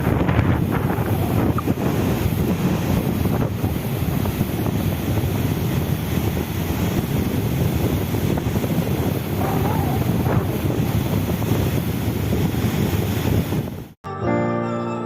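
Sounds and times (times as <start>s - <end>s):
water rushing: 0.0s - 14.0s
wind buffeting microphone: 0.0s - 14.0s.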